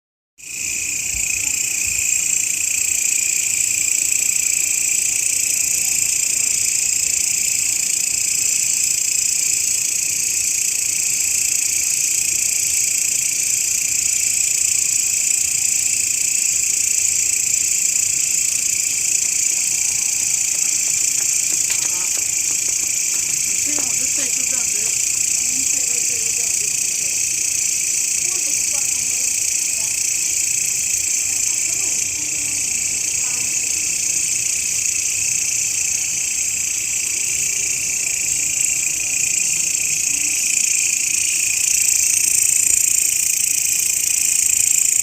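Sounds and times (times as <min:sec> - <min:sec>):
grasshopper stridulation buzz: 0:00.4 - 0:45.0.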